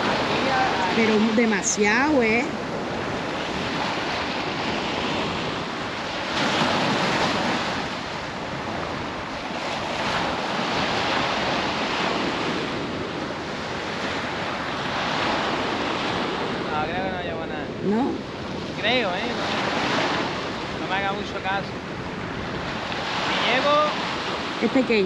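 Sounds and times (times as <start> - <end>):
surf breaking on beach: 0.0 - 25.0
wind on microphone: 0.0 - 25.0.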